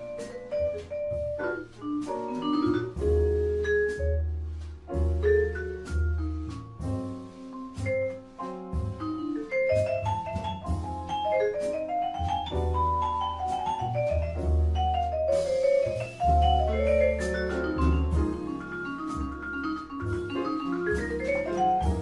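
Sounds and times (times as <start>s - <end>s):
instrumental music with struck notes: 0.0s - 22.0s
low bass notes: 0.0s - 22.0s.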